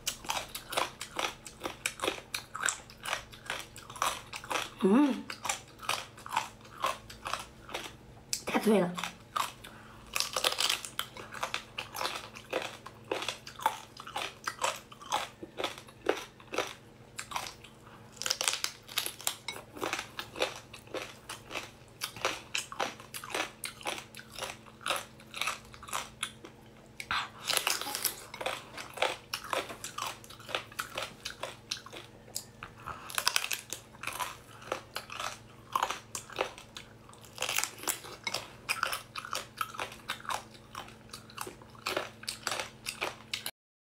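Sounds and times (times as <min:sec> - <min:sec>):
faint steady hum: 0:00.0 - 0:43.5
wet crunchy chewing: 0:00.0 - 0:43.5.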